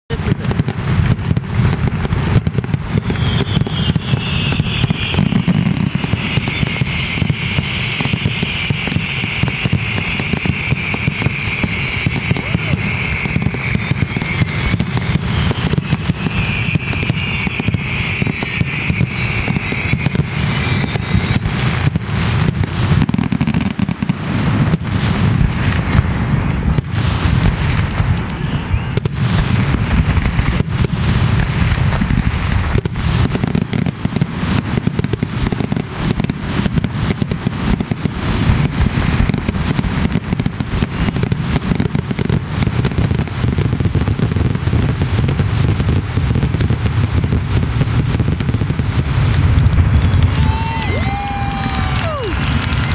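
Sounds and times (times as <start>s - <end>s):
fireworks bursting: 0.1s - 52.9s.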